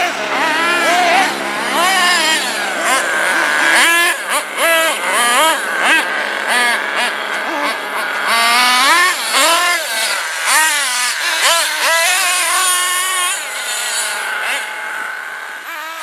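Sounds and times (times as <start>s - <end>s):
small nitro engines revving: 0.0s - 16.0s.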